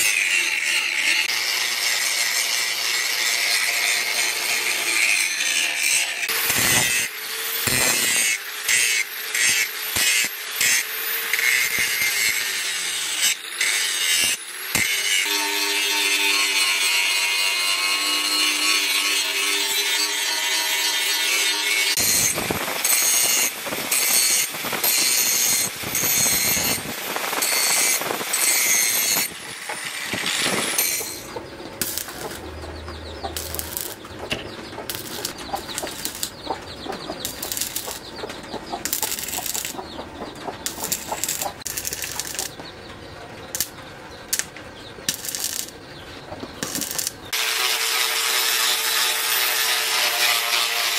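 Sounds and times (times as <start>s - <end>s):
angle grinder grinding steel: 0.0s - 42.7s, 45.1s - 45.8s, 46.6s - 50.9s
stick welding crackling: 0.0s - 42.7s, 43.4s - 47.4s.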